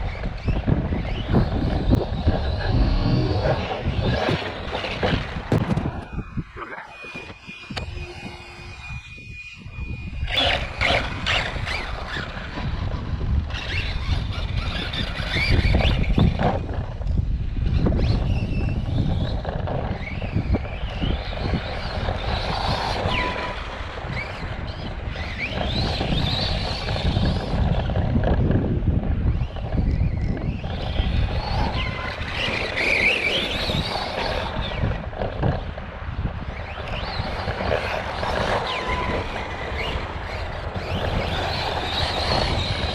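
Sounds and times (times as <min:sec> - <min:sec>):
tyre and drivetrain noise: 0:00.0 - 0:09.1, 0:10.2 - 0:42.9
rc truck motor whining: 0:00.0 - 0:42.9.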